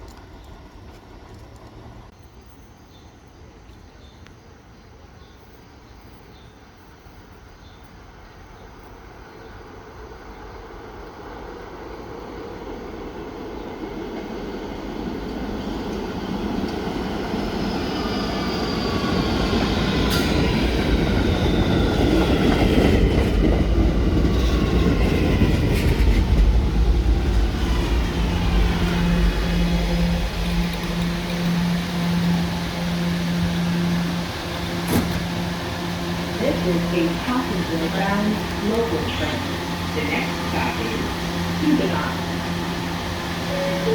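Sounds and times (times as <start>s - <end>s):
electric train rumble: 0.0s - 43.9s.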